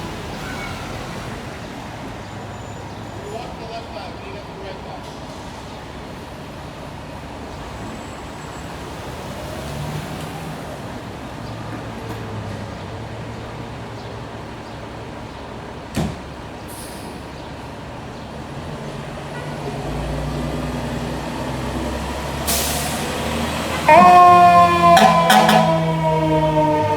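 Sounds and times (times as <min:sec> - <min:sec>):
street traffic: 0:00.0 - 0:26.9.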